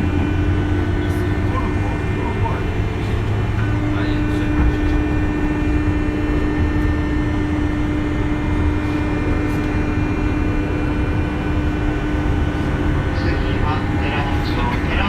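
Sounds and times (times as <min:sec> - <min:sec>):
constant hum: 0:00.0 - 0:15.0
electric train interior rumble: 0:00.0 - 0:15.0.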